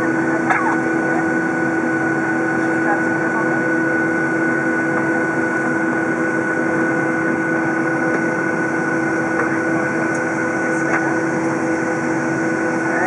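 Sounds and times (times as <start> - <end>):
jet engines idling hum: 0.0 - 13.0.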